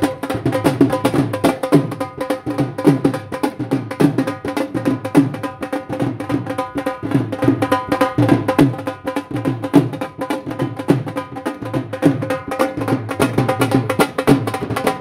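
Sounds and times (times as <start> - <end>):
dhol drumming: 0.0 - 15.0.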